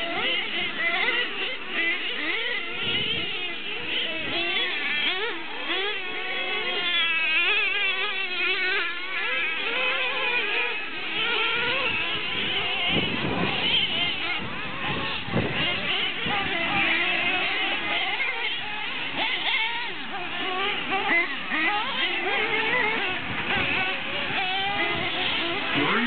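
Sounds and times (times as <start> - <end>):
small motors buzzing and whining: 0.0 - 26.0.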